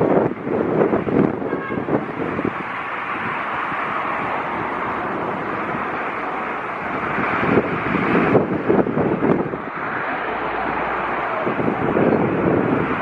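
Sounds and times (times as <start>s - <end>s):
jet airliner engines rushing: 0.0s - 13.0s
wind buffeting microphone: 0.0s - 13.0s.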